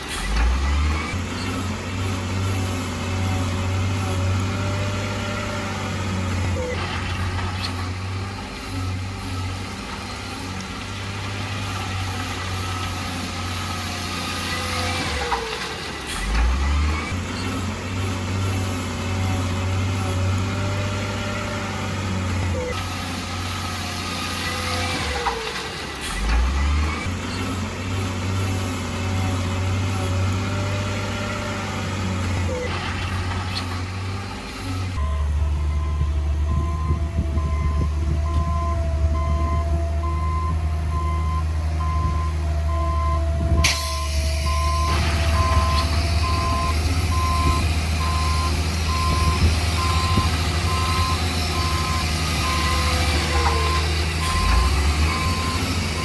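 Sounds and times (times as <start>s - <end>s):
heavy machinery engines humming: 0.0s - 56.0s.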